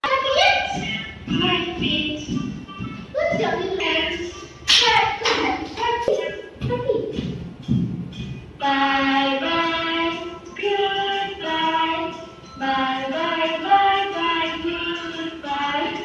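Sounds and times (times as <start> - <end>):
music with singing voice: 0.4 - 16.0.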